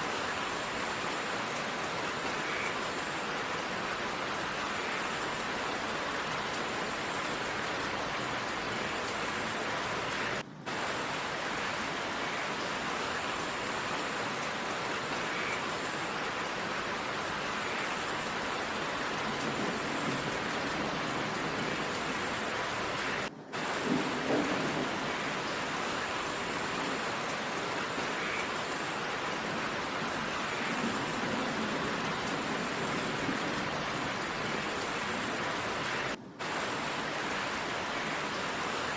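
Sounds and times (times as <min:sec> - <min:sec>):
heavy rain downpour: 0:00.0 - 0:38.9.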